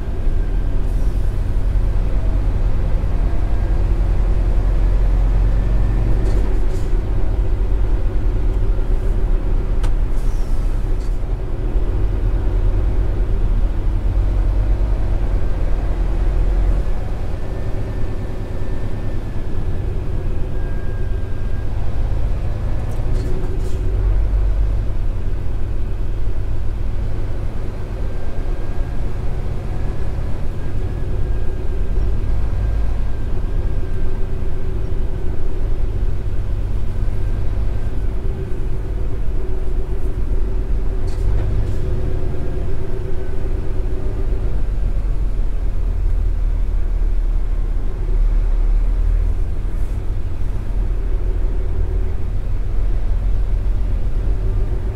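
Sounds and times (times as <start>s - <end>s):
road rumble: 0.0s - 54.9s
truck diesel engine drone: 0.0s - 54.9s.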